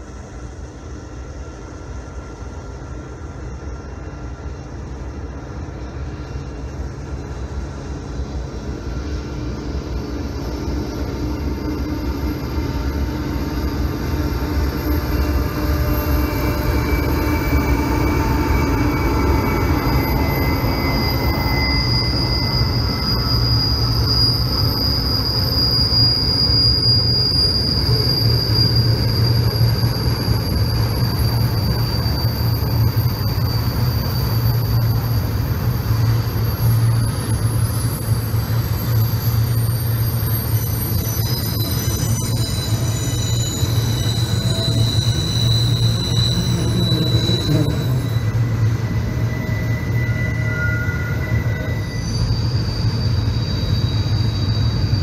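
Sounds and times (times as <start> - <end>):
train rumbling: 0.0 - 55.0
train wheels squealing: 0.0 - 55.0.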